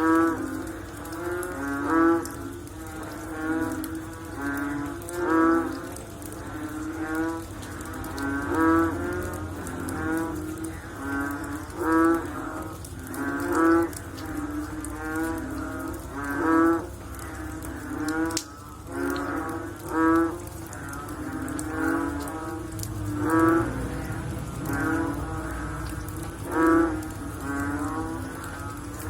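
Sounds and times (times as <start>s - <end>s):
frogs calling: 0.0s - 29.0s.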